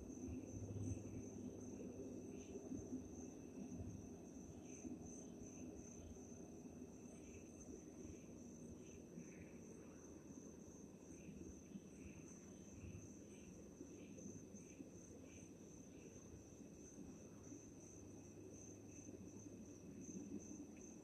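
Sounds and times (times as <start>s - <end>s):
crickets trilling: 0.0s - 21.0s
insect chirping: 0.0s - 21.0s.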